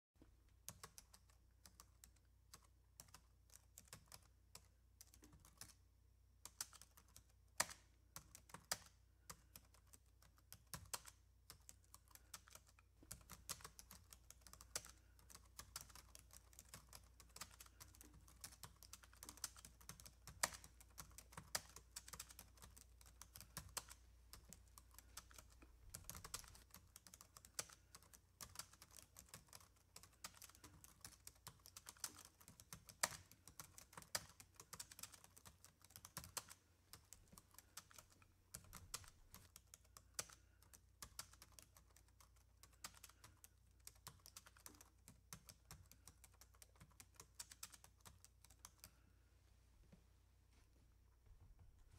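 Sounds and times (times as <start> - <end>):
keyboard typing: 0.6 - 5.8, 6.4 - 49.1.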